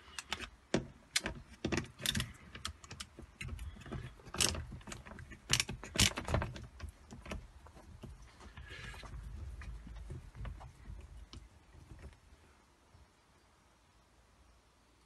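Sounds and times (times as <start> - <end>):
hands clicking and tapping on parts: 0.0 - 12.2.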